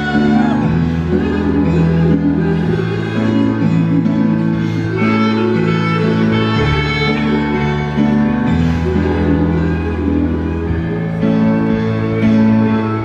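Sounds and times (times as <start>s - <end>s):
bass line: 0.0s - 13.0s.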